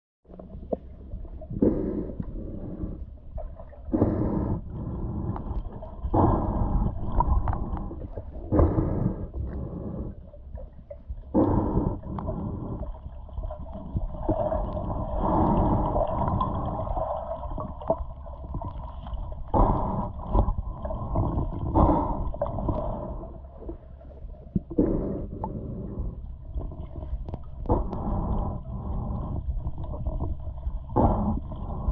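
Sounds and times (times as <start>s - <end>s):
muffled underwater rumble: 0.3s - 31.9s.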